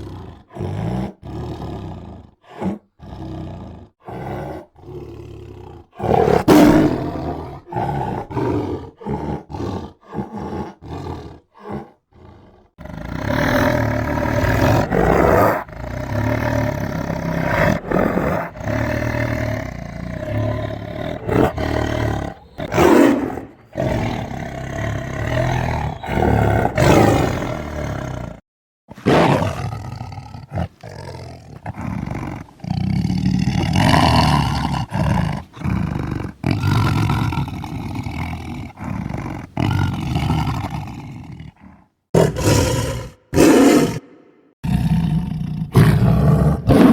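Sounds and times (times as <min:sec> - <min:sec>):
tiger roaring and growling: 0:00.0 - 0:46.9.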